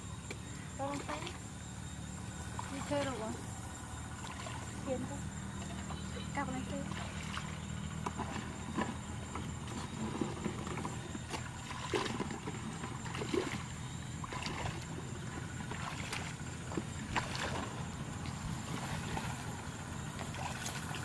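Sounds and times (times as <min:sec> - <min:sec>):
steady low hum: 0:00.0 - 0:21.0
water splashing around wading legs: 0:02.4 - 0:03.4, 0:04.0 - 0:21.0.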